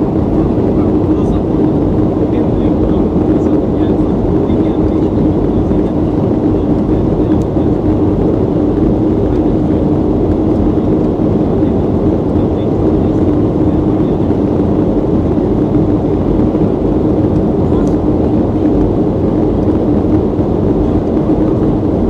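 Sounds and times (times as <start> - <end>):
airplane cabin engine rush: 0.0 - 22.0
constant low hum: 0.0 - 22.0.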